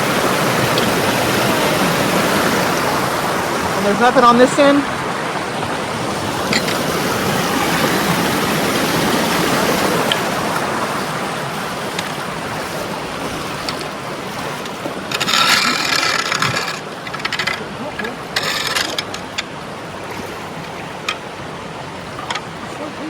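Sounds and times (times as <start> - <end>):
floodwater rushing through culverts: 0.0 - 23.0.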